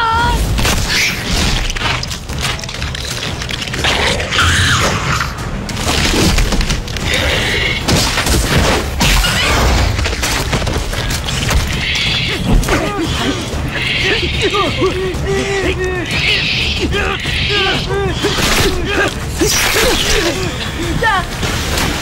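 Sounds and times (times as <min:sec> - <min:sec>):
dramatic music: 0:00.0 - 0:22.0.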